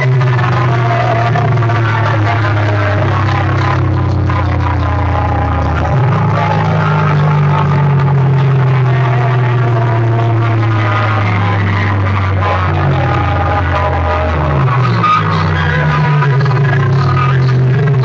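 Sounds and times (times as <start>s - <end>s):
loud bass-heavy music over speakers: 0.0s - 18.0s.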